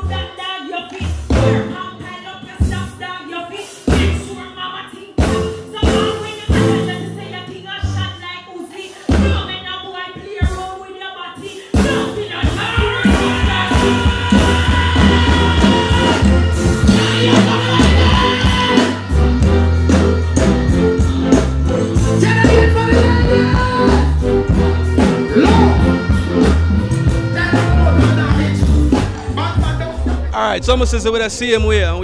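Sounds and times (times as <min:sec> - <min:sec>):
person singing: 0:00.0 - 0:30.4
loud live band music: 0:00.0 - 0:32.0.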